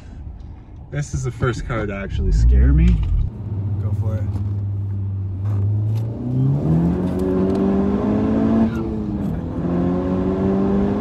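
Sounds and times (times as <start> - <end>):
car engine accelerating: 2.1 - 11.0.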